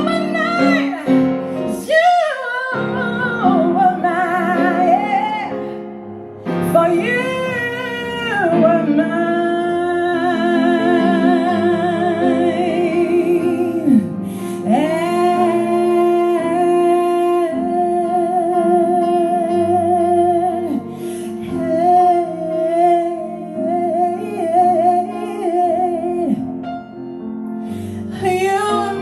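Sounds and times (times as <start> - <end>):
woman singing with vibrato: 0.0 - 5.8, 6.6 - 26.5, 28.1 - 29.0
piano accompaniment: 0.0 - 29.0.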